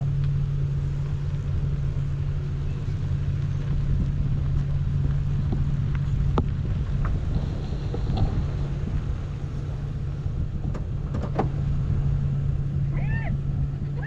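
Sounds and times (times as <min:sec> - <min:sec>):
car engine hum from inside: 0:00.0 - 0:14.0.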